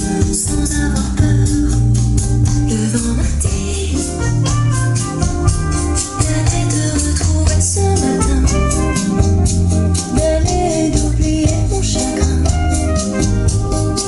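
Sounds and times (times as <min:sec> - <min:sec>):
heavy bass line: 0:00.0 - 0:14.0
shaker-like percussion: 0:00.0 - 0:14.0.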